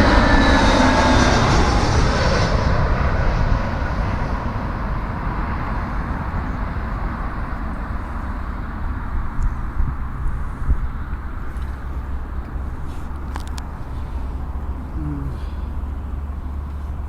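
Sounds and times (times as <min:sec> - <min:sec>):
jet engines low rumble: 0:00.0 - 0:17.0
jet engines whining: 0:00.0 - 0:17.0.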